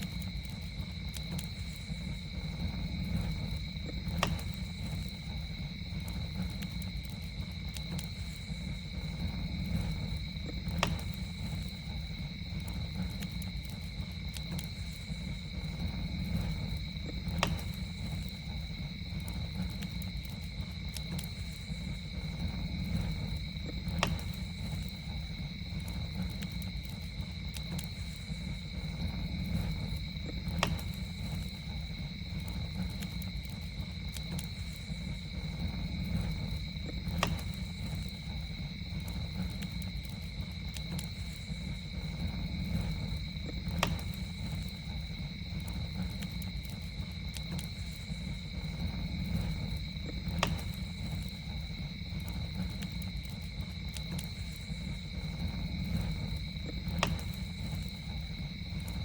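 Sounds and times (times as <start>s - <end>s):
campfire pops and crackles: 0.0s - 59.0s
campfire rumble: 0.0s - 59.0s
insects trilling: 0.0s - 59.0s.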